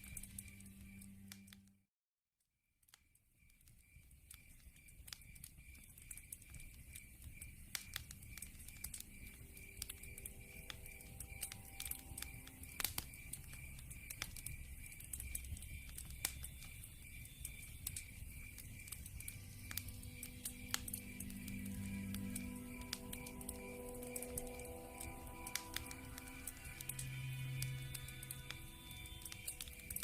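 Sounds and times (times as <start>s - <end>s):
night insects chirping: 0.0s - 1.2s, 3.4s - 30.0s
wood fire crackling and popping: 0.0s - 1.6s, 2.9s - 30.0s.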